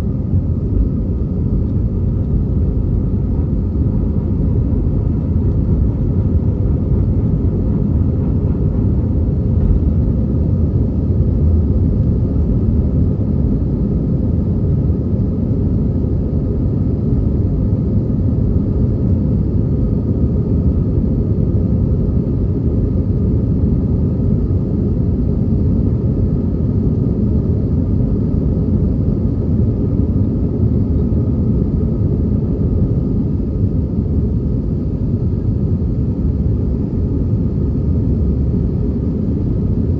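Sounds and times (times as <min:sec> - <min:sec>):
jet engine and airflow rumble: 0:00.0 - 0:39.9.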